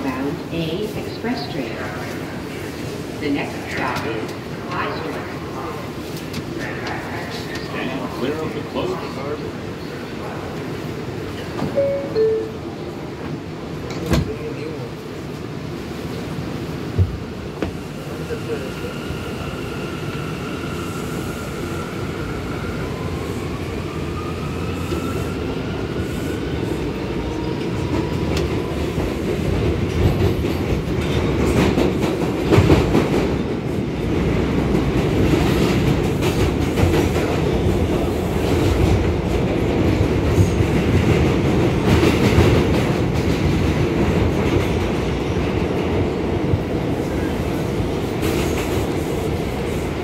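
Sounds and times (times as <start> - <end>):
subway train propulsion whine: 0.0 - 50.0.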